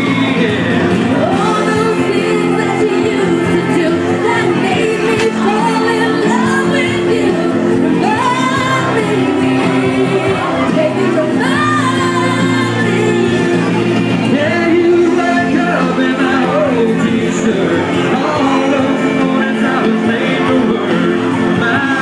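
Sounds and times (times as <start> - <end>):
backing music: 0.0 - 22.0
person singing loudly: 0.0 - 22.0.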